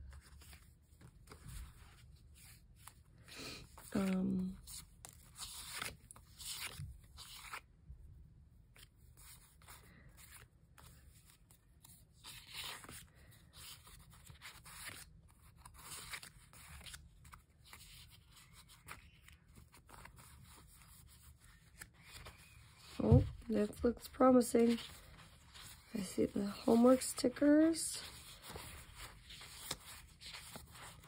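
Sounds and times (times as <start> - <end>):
paper rustling and crinkling: 0.0 - 7.7, 8.7 - 31.0.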